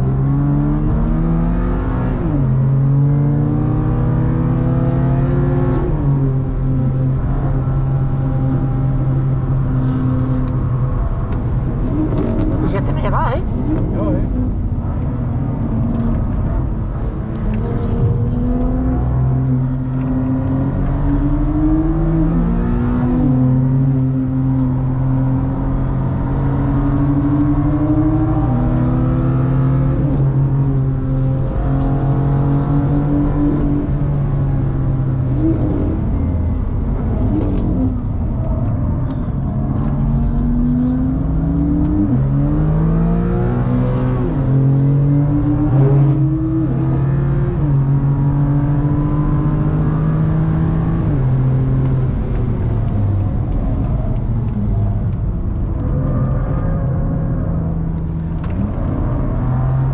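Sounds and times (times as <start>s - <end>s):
car engine at speed: 0.0s - 59.9s
tyre and road rumble: 0.0s - 59.9s.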